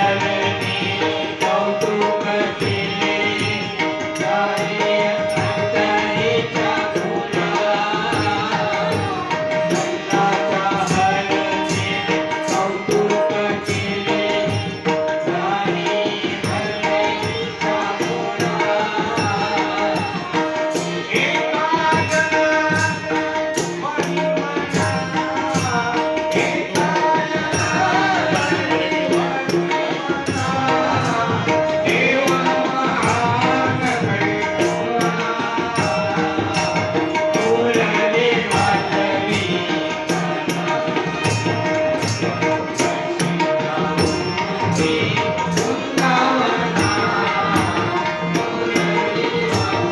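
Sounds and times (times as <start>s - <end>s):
devotional singing: 0.0s - 49.9s
tabla beat: 0.0s - 49.9s.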